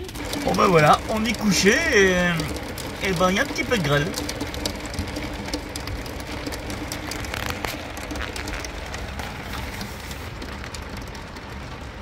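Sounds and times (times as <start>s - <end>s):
hail pattering on vehicle: 0.0s - 12.0s.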